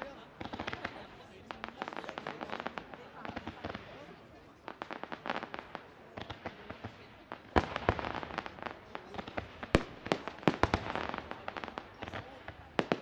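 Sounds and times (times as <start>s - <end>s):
fireworks bangs and pops: 0.0s - 13.0s
fireworks crackle: 0.0s - 13.0s.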